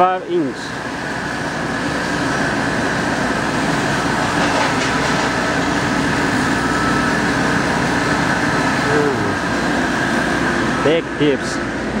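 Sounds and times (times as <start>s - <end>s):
foam cutting machine running: 0.0s - 12.0s.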